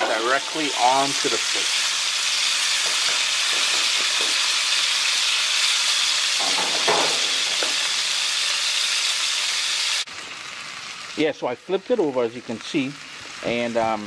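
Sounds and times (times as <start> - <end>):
fish sizzling on a grill pan: 0.0 - 14.0.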